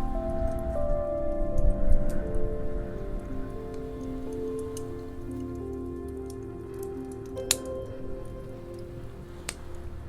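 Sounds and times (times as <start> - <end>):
soft ambient music: 0.0 - 10.0
wood fire crackling: 0.0 - 10.0.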